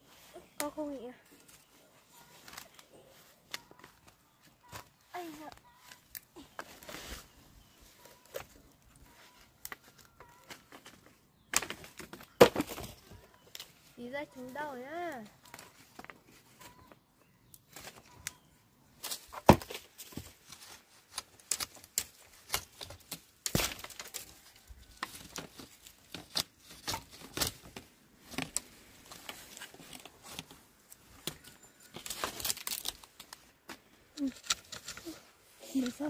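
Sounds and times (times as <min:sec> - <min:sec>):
leaves and bark rustling: 0:00.0 - 0:36.0
dry wooden pole cracking: 0:02.3 - 0:07.1, 0:08.2 - 0:13.8, 0:17.5 - 0:36.0.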